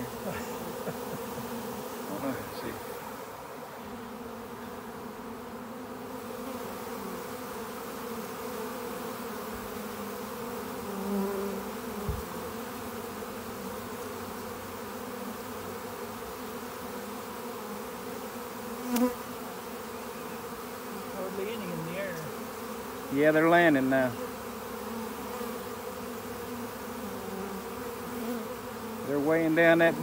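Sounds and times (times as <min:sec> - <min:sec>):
bee passing close by: 0:00.0 - 0:30.0
bee swarm buzzing: 0:00.0 - 0:30.0.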